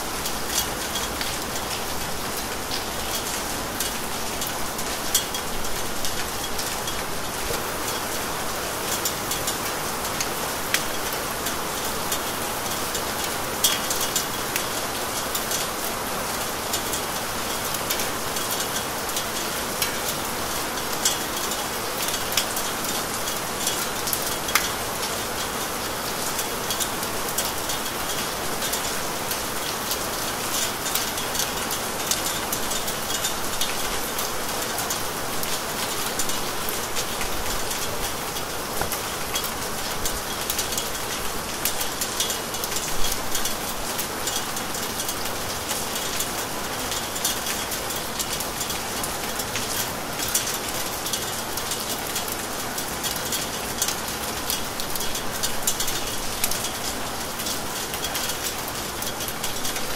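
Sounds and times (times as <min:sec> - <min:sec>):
steady rain hiss: 0:00.0 - 0:59.9
raindrops ticking: 0:00.1 - 0:59.9.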